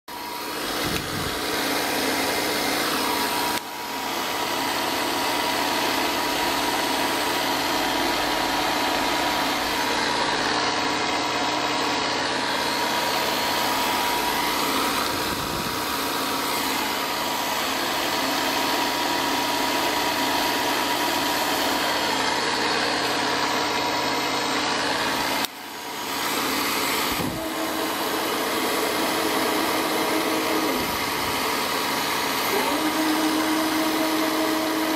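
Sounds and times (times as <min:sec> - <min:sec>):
milling machine droning: 0:00.1 - 0:34.9.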